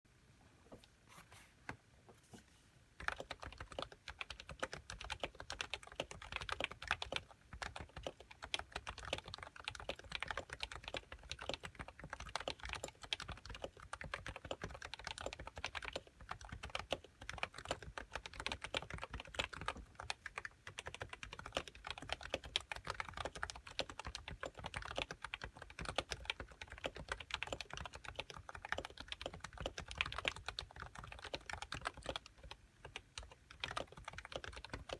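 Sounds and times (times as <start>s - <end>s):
fast keyboard typing: 3.0s - 34.9s.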